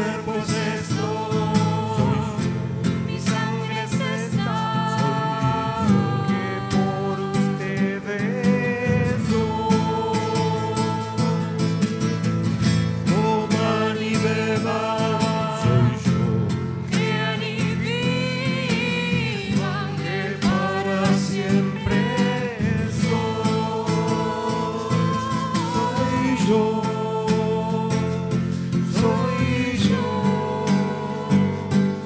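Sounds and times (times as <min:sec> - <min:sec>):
small group singing a hymn: 0:00.0 - 0:11.6, 0:13.1 - 0:32.0
woman's voice leading singing: 0:00.0 - 0:11.8, 0:13.2 - 0:32.0
strummed acoustic guitar: 0:00.0 - 0:32.0.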